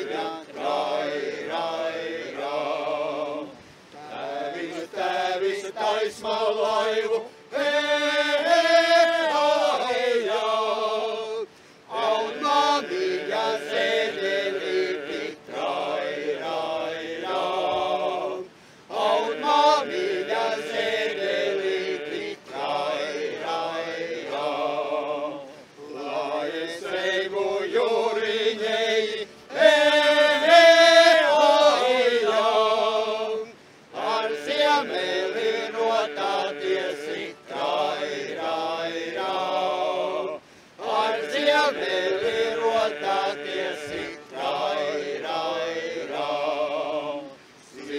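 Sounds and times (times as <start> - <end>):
men's ensemble singing: 0.0 - 47.9.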